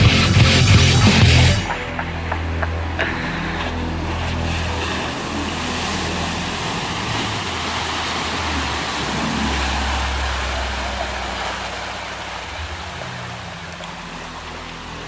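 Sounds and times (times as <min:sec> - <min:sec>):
vehicle engine droning: 0:00.0 - 0:15.0
wind and road noise: 0:00.0 - 0:15.0.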